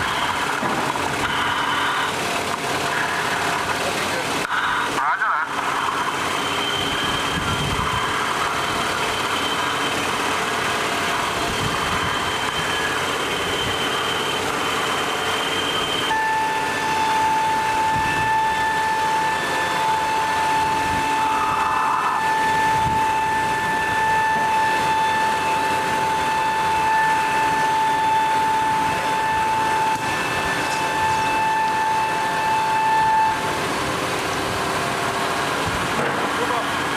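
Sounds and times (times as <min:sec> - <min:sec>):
constant high whine: 0:00.0 - 0:36.9
machinery running: 0:00.0 - 0:36.9.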